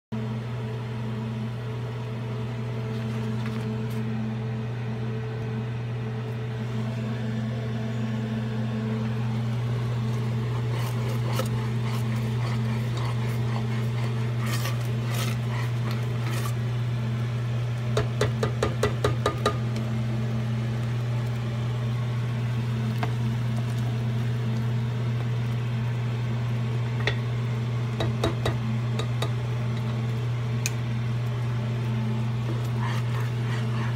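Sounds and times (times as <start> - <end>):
low electrical appliance hum: 0.1 - 33.9.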